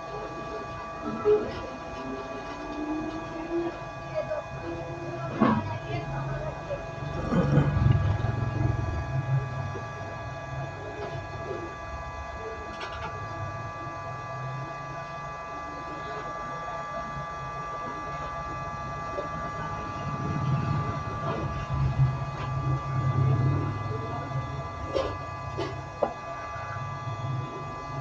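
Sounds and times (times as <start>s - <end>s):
hot air blower running: 0.0s - 28.0s.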